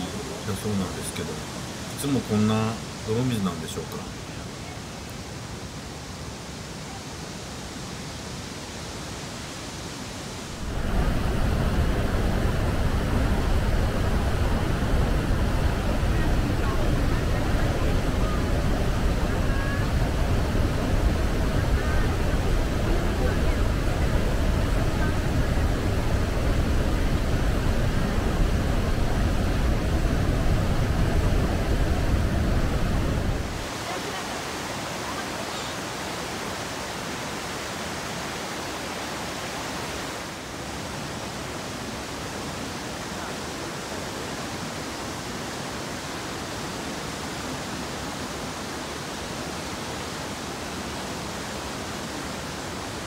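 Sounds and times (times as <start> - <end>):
water rushing over rocks: 0.0 - 53.0
waterfall roaring: 0.0 - 53.0.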